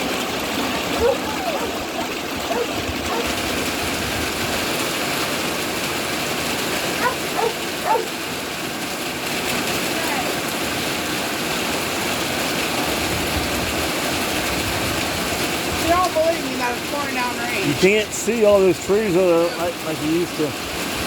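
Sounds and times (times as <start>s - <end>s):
rain spattering on wooden deck: 0.0s - 21.0s.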